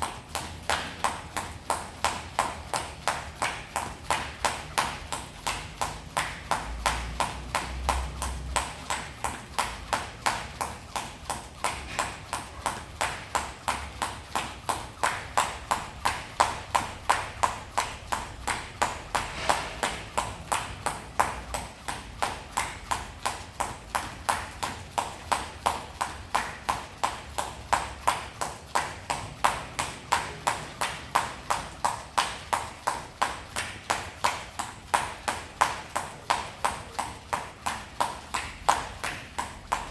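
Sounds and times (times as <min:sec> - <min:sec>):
jump rope slapping the floor: 0:00.0 - 0:39.9.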